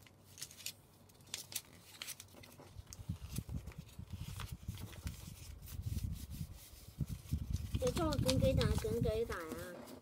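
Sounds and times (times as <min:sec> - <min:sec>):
paper crinkling and rustling: 0:00.0 - 0:10.0
dull paper rubbing: 0:01.9 - 0:10.0.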